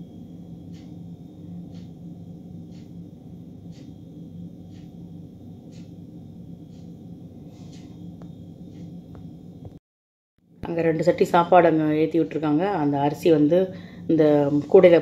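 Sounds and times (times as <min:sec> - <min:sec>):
low kitchen hum: 0:00.0 - 0:09.8, 0:10.4 - 0:15.0.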